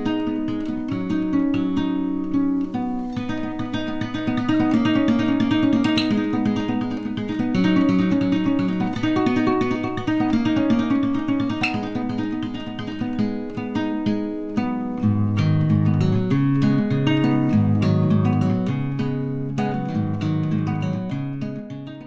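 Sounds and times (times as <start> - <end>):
acoustic guitar plucking: 0.0 - 22.0.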